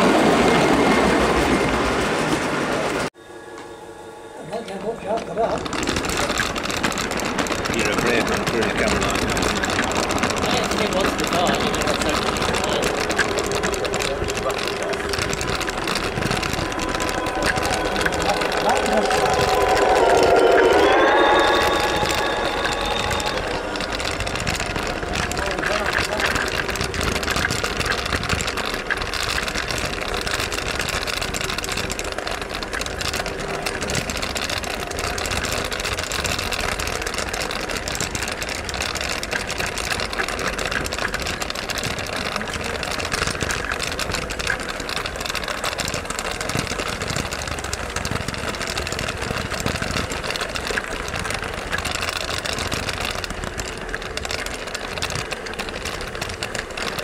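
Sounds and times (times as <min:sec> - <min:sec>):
model train wheels rattling on track: 0:04.5 - 0:57.0.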